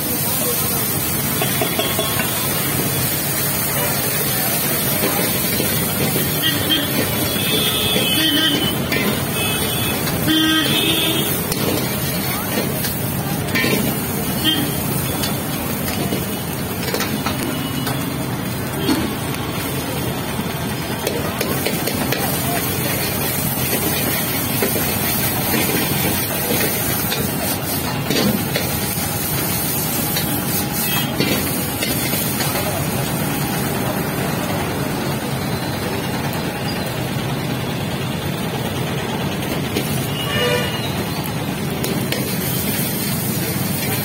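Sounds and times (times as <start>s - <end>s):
gas burner roaring: 0.0s - 44.0s.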